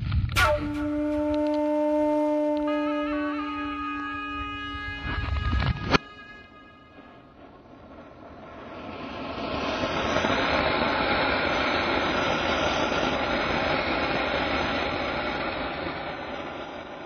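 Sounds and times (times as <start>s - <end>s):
firework fountain hissing: 0.0s - 17.0s.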